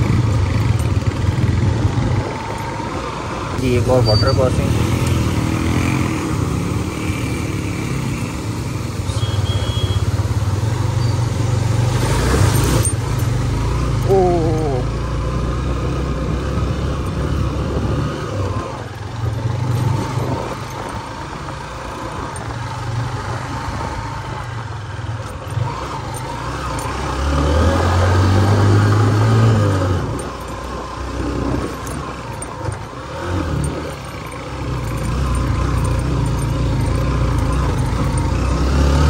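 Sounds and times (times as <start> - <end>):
motorcycle engine under load: 0.0 - 39.0.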